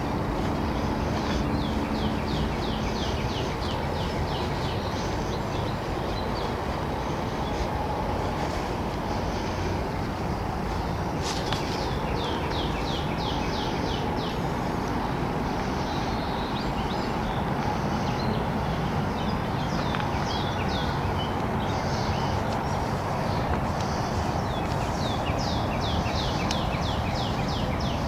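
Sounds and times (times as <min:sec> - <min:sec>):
bird chirping: 0:00.0 - 0:28.0
low background rumble: 0:00.0 - 0:28.0.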